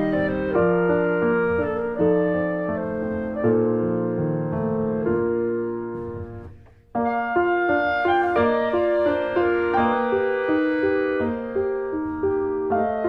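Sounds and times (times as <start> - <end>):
piano music with held notes: 0.0 - 13.0.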